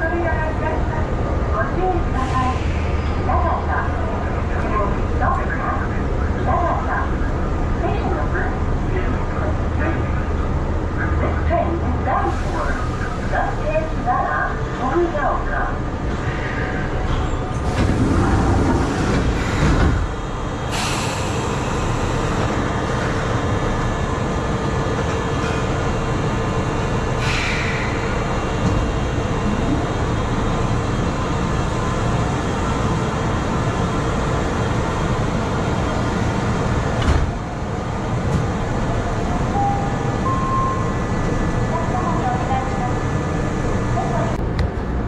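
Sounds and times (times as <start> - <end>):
train cab hum: 0.0 - 45.0.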